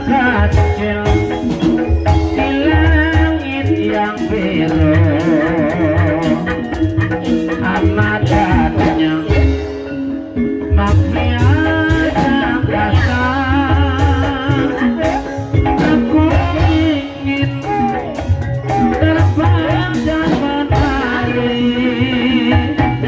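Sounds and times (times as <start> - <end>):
metallophone notes: 0.0 - 23.0
person singing with vibrato: 0.0 - 23.0.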